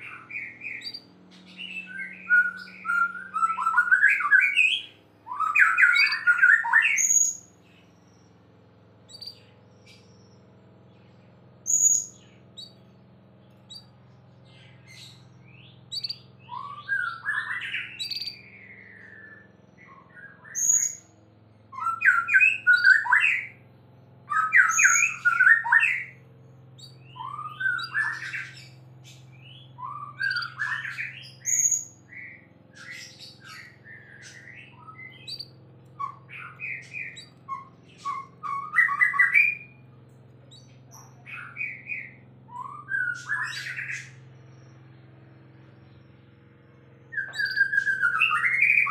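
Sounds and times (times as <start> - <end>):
bird singing whistled phrases: 0.0 - 8.3, 9.1 - 10.3, 11.6 - 12.8, 14.5 - 21.1, 21.7 - 23.6, 24.3 - 26.2, 26.8 - 39.8, 40.5 - 44.2, 47.1 - 48.9
faint steady hum: 0.0 - 48.9.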